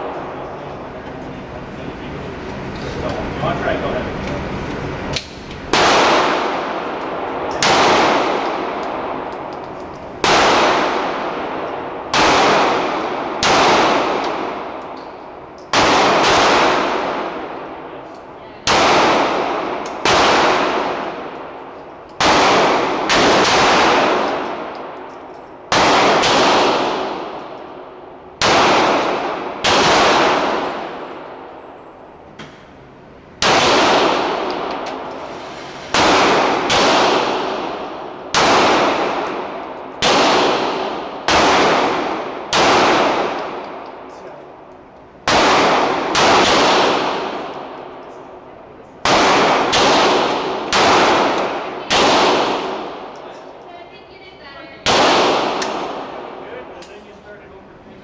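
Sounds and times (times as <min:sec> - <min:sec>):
pistol shots echoing indoors: 0:05.1 - 0:32.8, 0:33.4 - 0:57.2.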